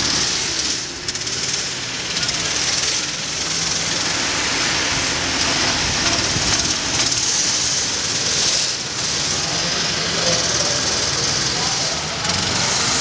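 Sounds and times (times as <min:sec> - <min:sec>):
go-kart engines buzzing: 0:00.0 - 0:13.0.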